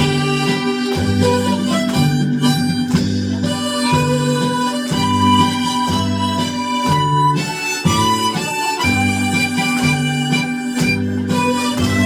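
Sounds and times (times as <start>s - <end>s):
harmonica playing slow melody: 0.0s - 12.0s
low accompaniment: 0.0s - 12.0s.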